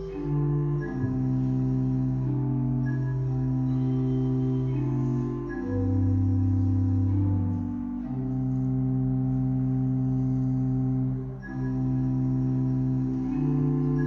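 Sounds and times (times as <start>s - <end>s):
slow instrumental music: 0.0s - 14.0s.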